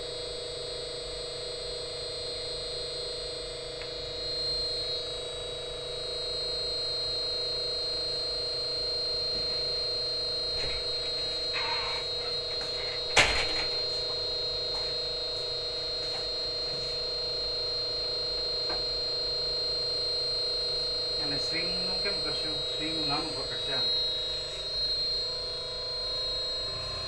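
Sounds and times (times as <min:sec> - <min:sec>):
electrical hum with whine: 0:00.0 - 0:27.0.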